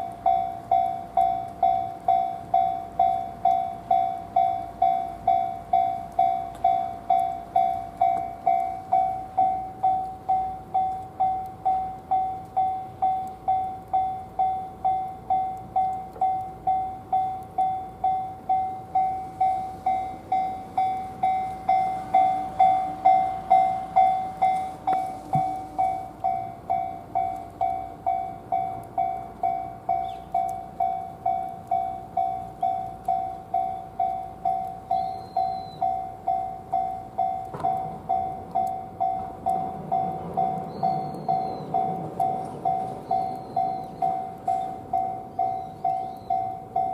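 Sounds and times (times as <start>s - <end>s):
level-crossing alarm clanging: 0.0s - 46.9s.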